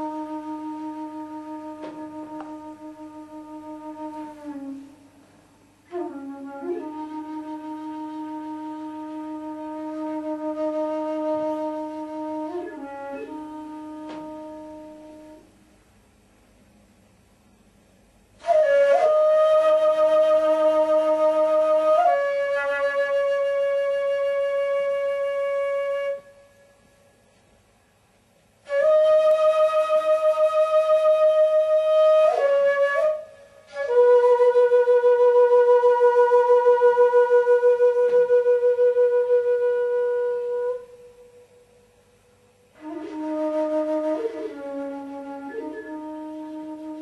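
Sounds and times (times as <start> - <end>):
solo wind instrument playing: 0.0 - 5.2, 5.8 - 15.6, 18.4 - 27.2, 28.6 - 41.8, 42.7 - 47.0.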